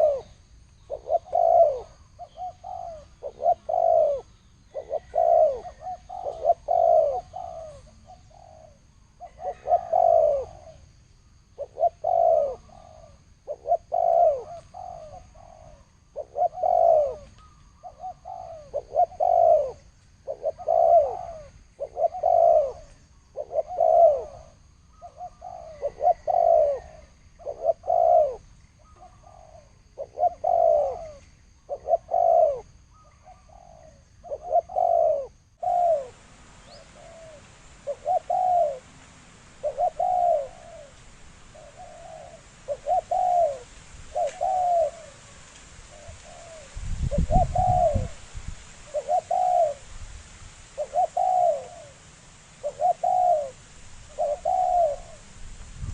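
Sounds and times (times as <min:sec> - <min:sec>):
dove cooing: 0:00.0 - 0:50.0, 0:50.8 - 0:55.9.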